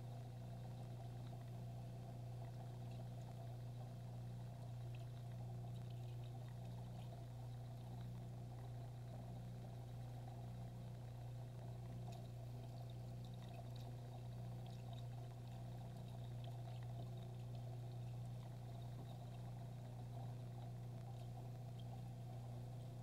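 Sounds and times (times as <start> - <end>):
aquarium pump humming: 0.0 - 23.0
small ticks: 0.0 - 23.0
water trickling: 0.0 - 23.0.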